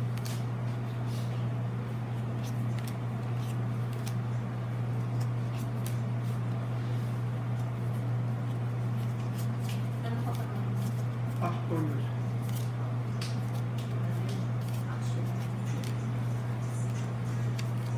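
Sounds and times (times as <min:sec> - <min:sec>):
cards flipped by hand: 0:00.0 - 0:00.5, 0:02.2 - 0:06.6, 0:07.5 - 0:17.9
steady low hum: 0:00.0 - 0:17.9.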